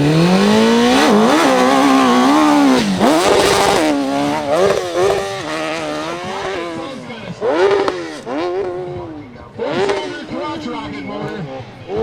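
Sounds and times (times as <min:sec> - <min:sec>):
motorcycle engine revving hard: 0:00.0 - 0:12.0.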